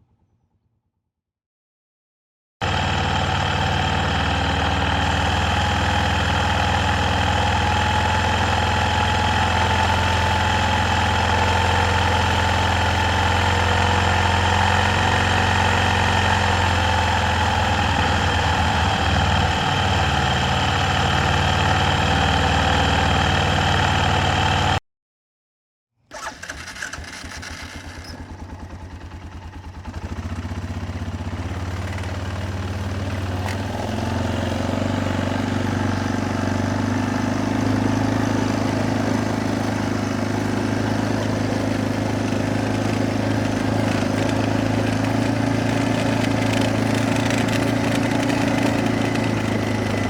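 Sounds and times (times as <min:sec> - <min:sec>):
atv engine running: 0:02.6 - 0:24.8, 0:26.1 - 0:50.0.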